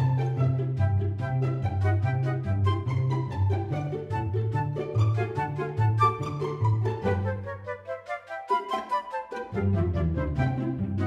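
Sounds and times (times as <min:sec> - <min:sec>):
string-like notes: 0:00.0 - 0:11.0.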